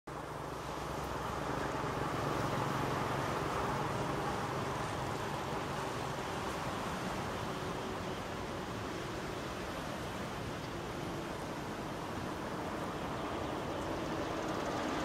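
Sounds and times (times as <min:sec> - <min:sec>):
waves washing up a beach: 0:00.1 - 0:15.0.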